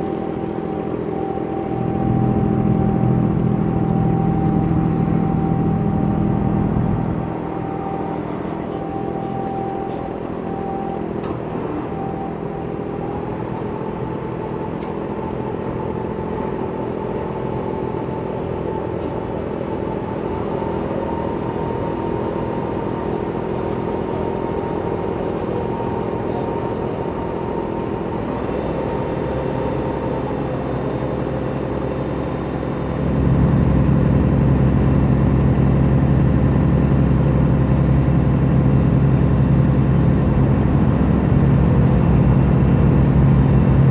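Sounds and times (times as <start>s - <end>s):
ferry engine running: 0.0s - 43.9s.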